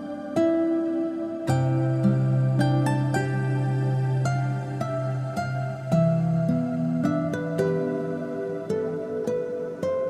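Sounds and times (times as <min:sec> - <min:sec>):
soft slow instrumental music: 0:00.0 - 0:10.0.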